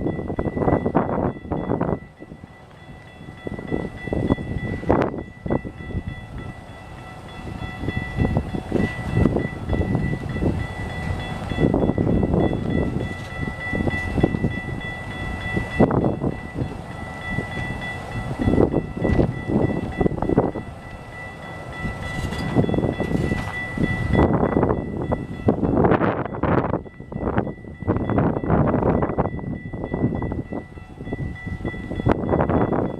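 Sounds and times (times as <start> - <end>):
train rumbling on tracks: 0.0 - 32.9.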